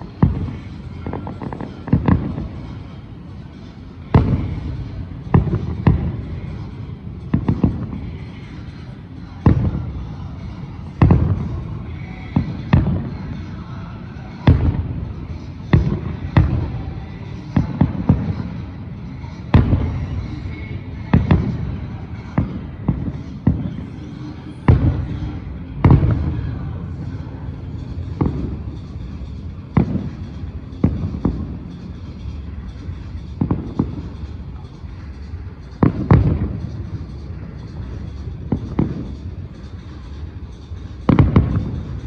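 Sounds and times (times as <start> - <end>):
fireworks booming bangs: 0.0 - 42.0.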